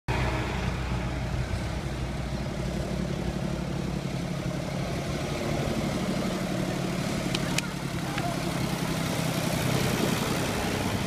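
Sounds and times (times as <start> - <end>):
tractor engine running: 0.1 - 11.0.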